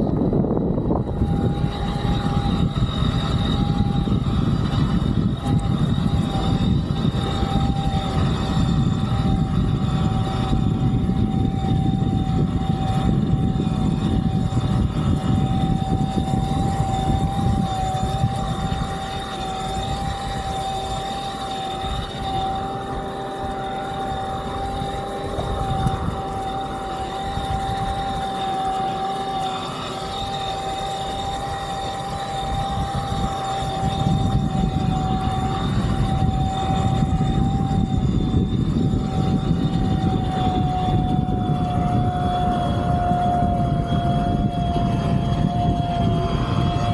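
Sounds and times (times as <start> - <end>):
electric motor whining: 0.0 - 46.9
rush of wind and water: 0.0 - 46.9.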